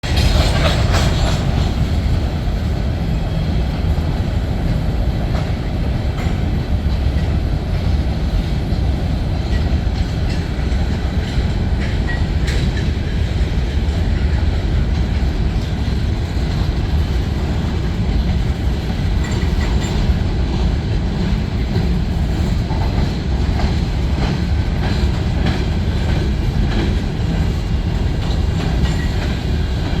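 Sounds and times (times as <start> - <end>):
faint clicks of wheels on rails: 0.0 - 30.0
train rumbling on rails: 0.0 - 30.0.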